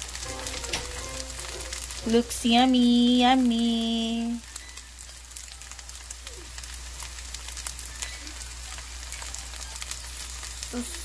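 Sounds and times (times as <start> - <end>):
pancakes sizzling in oil: 0.0 - 11.0.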